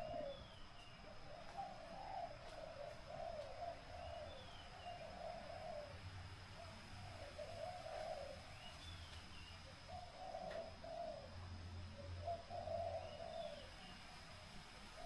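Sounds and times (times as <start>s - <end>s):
dove cooing: 0.0s - 6.0s, 6.6s - 8.7s, 9.8s - 13.9s.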